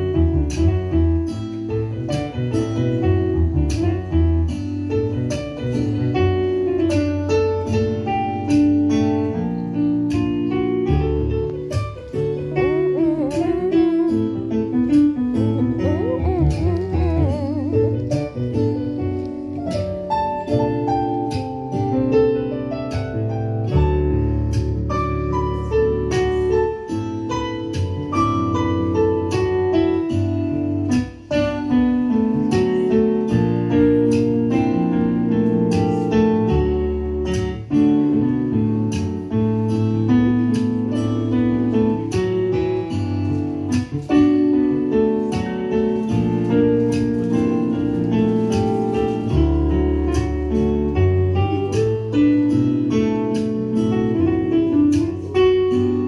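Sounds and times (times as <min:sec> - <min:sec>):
jazz piano on keyboard: 0:00.0 - 0:56.0.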